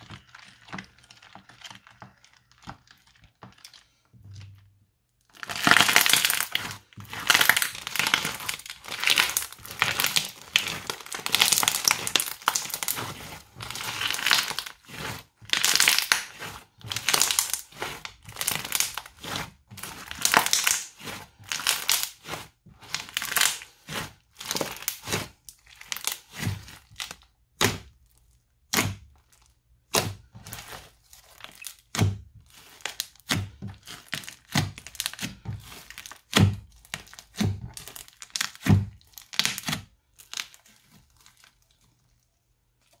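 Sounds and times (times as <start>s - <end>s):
crunchy slime crackling: 5.2s - 43.0s.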